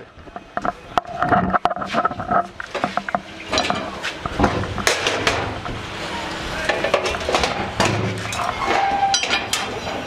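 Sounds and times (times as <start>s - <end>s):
metal parts clinking and clanking: 0.6s - 5.5s, 6.7s - 10.0s.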